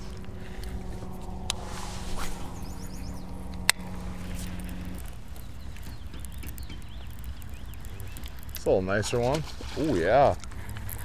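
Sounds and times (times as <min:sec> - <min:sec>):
electric trolling motor humming: 0:00.0 - 0:11.0.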